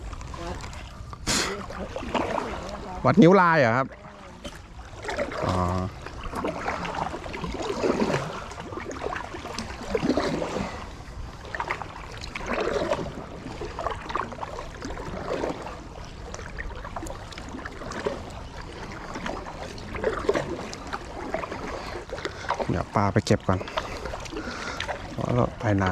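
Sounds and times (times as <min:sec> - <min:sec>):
paddle strokes splashing in water: 0:00.0 - 0:25.9.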